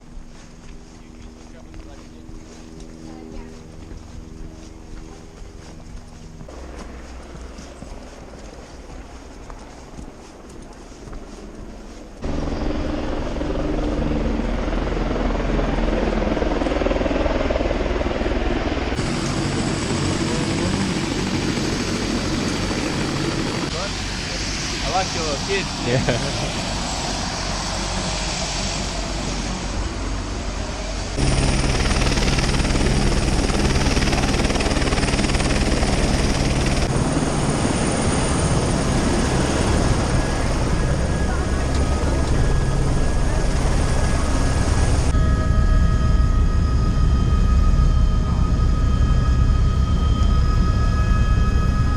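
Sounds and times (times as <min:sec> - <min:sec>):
helicopter rotor and engine: 0:00.0 - 0:51.9.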